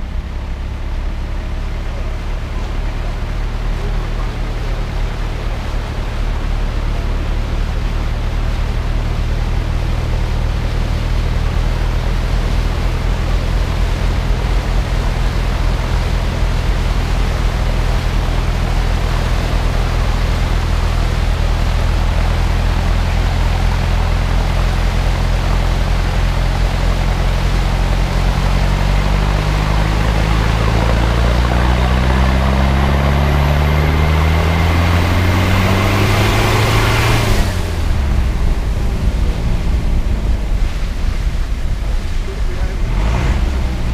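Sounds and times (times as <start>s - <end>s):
vehicle engine running: 0.0s - 43.9s
water rushing and splashing: 0.2s - 43.9s.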